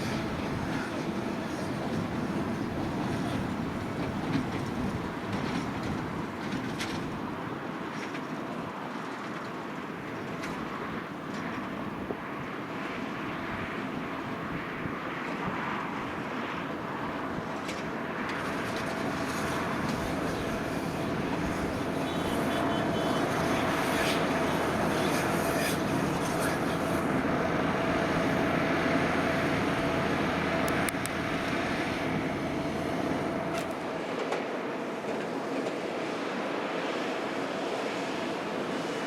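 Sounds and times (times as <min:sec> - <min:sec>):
tractor running: 0:00.0 - 0:14.5, 0:15.4 - 0:39.0.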